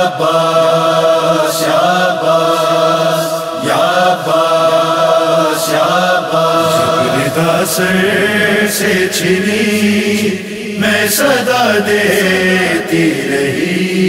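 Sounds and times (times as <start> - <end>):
chorus chanting lament: 0.0 - 14.0.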